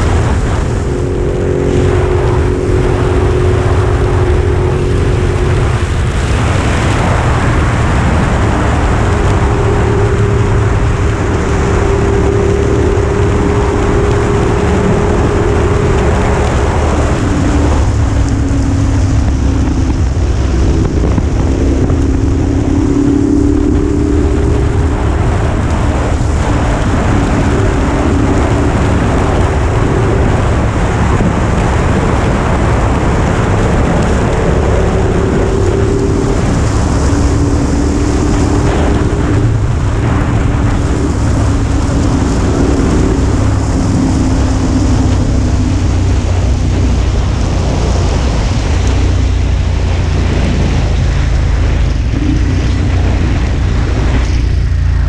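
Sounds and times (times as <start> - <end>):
motorcycle engine running: 0.0 - 55.0
wind rushing: 0.0 - 55.0.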